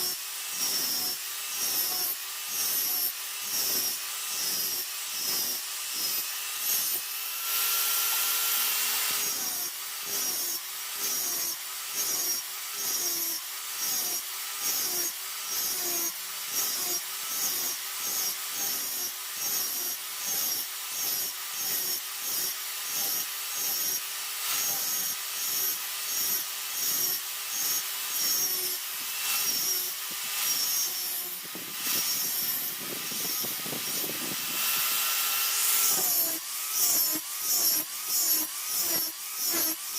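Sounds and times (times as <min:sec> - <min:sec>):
hand saw strokes: 0:00.0 - 0:39.9.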